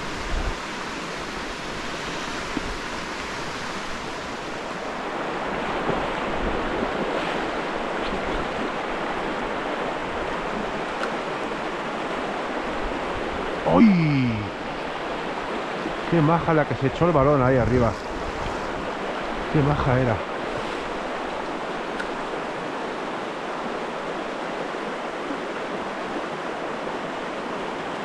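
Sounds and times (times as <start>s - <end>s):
river rushing over stones: 0.0s - 28.0s.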